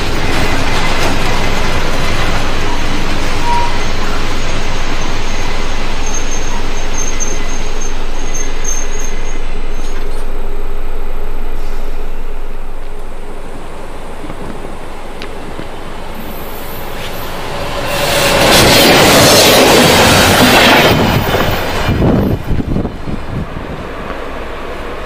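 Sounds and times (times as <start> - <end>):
electric locomotives rushing hum: 0.0 - 25.0.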